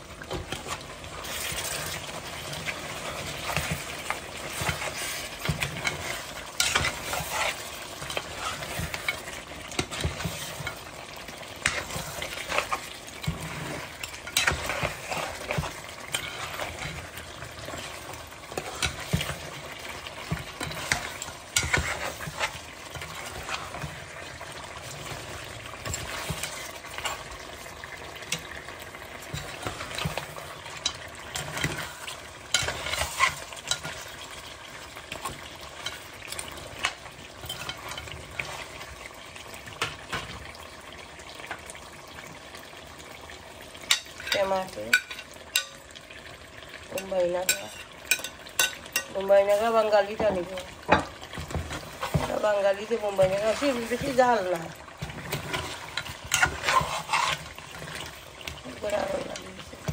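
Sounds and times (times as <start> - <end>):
food sizzling in a pan: 0.0 - 59.9
spoon scraping against a pan: 0.3 - 40.5, 43.8 - 46.3, 46.9 - 59.9.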